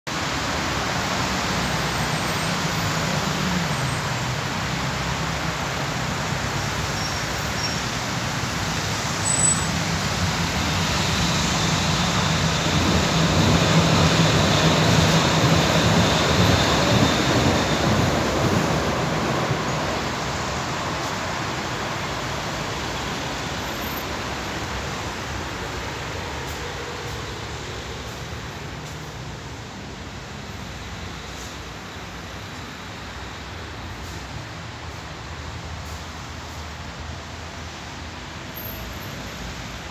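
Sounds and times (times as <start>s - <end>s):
passing vehicles rushing: 0.1s - 39.9s.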